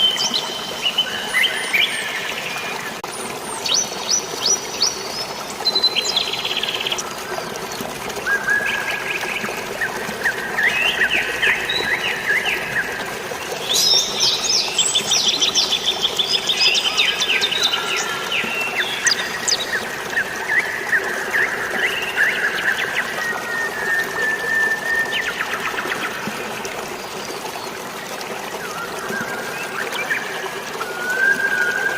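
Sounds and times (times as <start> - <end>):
flowing water: 0.0 - 31.9
rain: 0.0 - 31.9.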